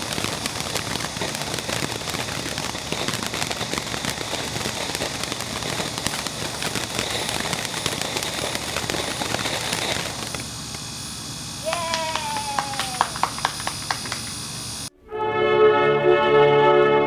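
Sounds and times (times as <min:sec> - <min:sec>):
fireworks crackling: 0:00.0 - 0:14.9.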